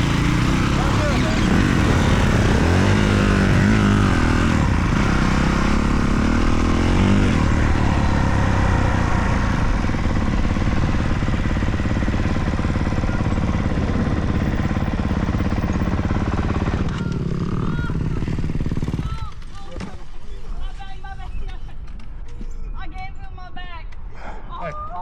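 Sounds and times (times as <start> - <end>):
dirt bike engines: 0.0 - 24.9.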